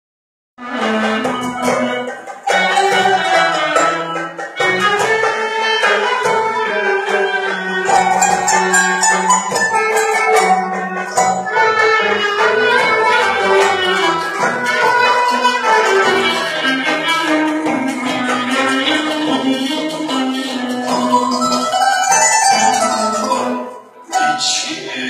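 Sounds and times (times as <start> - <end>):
bowed strings melody: 0.6 - 25.0
steady percussion beat: 0.9 - 24.9.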